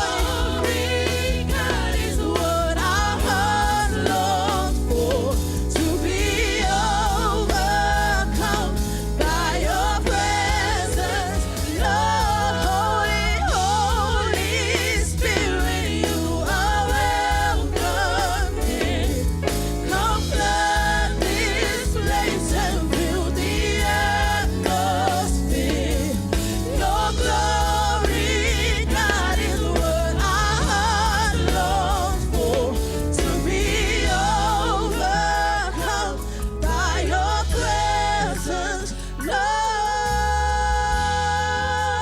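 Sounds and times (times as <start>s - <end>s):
band with bass and drums: 0.0s - 42.0s
choir singing: 0.0s - 42.0s
lead singer with vibrato: 0.0s - 42.0s.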